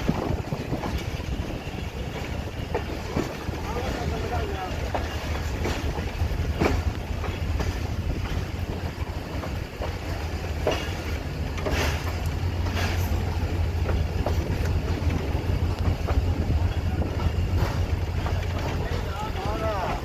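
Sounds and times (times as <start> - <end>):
train rumbling: 0.0 - 20.0
wheels and couplings clicking: 0.0 - 20.0.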